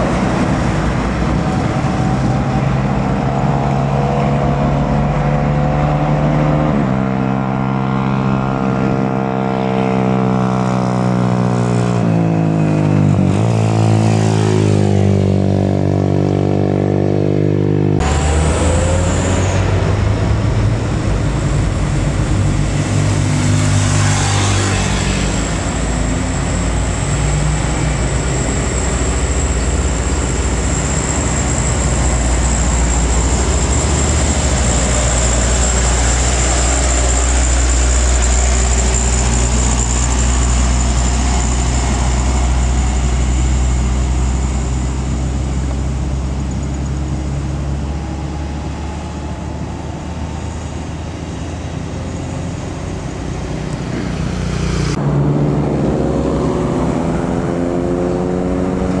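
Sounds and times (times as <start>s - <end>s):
diesel truck engines labouring: 0.0s - 16.9s, 18.0s - 59.0s.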